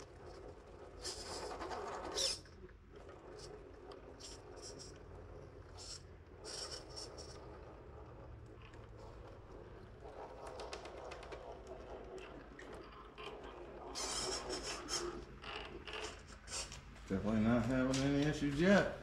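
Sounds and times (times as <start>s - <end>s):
drivetrain whirring: 0.0s - 19.0s.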